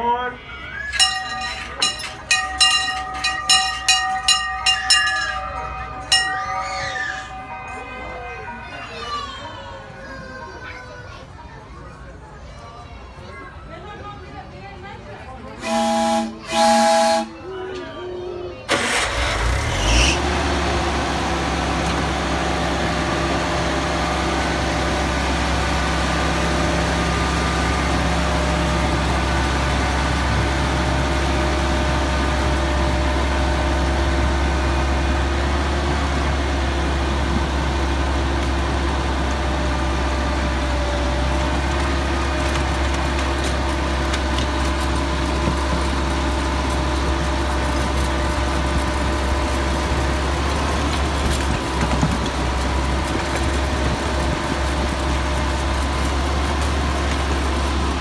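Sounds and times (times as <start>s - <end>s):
small train engine droning: 0.0s - 58.0s.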